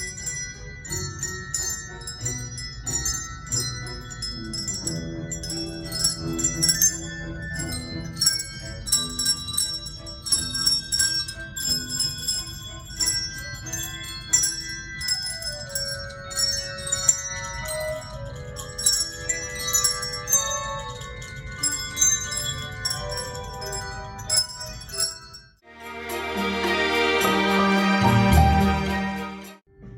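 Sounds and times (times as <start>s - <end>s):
handbell choir melody: 0.0s - 29.4s.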